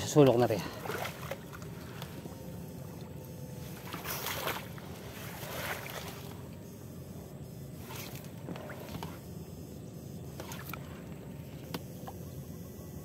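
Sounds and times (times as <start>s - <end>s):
water sloshing and splashing: 0.0s - 9.3s, 10.0s - 12.3s.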